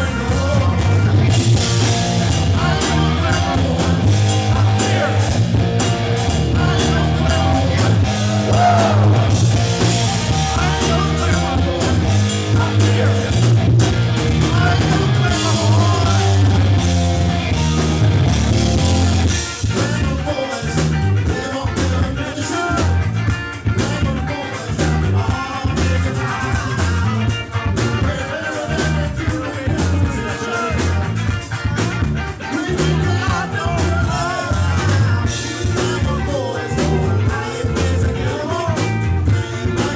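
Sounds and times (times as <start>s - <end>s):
bass guitar: 0.0s - 39.9s
drum kit: 0.0s - 39.9s
electric guitar: 0.0s - 39.9s
lead singer singing: 0.0s - 39.9s.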